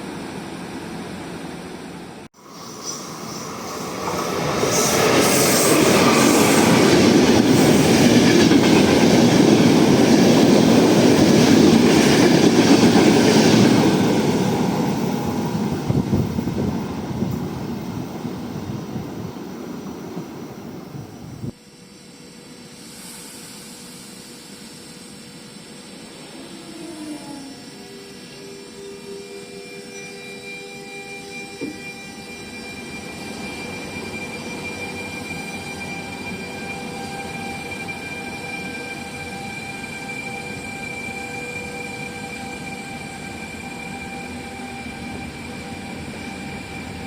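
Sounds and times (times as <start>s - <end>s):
train passing by: 0.0s - 21.6s, 26.0s - 47.0s.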